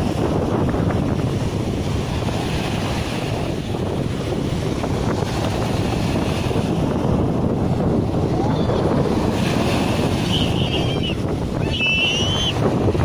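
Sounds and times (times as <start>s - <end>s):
waves washing up sandy beach: 0.0s - 13.0s
wind buffeting microphone: 0.0s - 13.0s.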